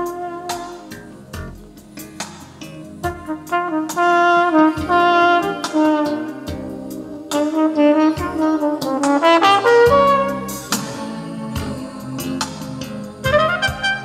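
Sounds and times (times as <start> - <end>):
jazz horn melody: 0.0 - 1.8, 2.6 - 14.0.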